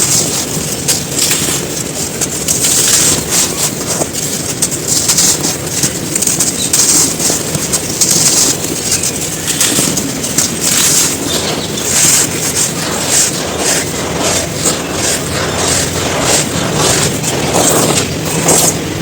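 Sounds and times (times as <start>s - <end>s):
sand crumbling and crunching: 0.0s - 19.0s.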